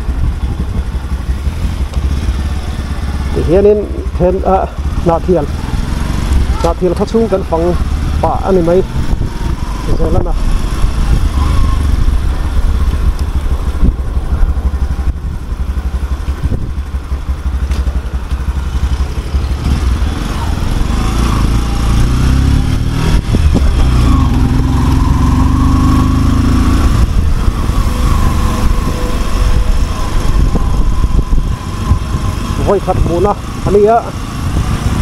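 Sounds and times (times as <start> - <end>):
wind rumble on microphone: 0.0 - 2.7, 3.3 - 35.0
motorcycle engine running: 0.0 - 35.0.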